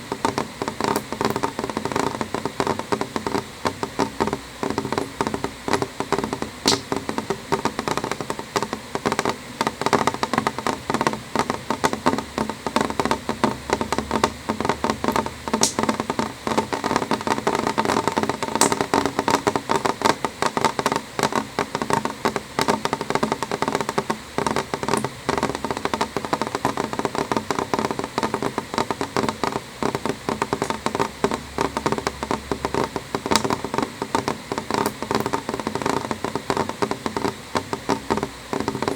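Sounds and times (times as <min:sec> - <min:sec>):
rain tapping on window glass: 0:00.0 - 0:38.9.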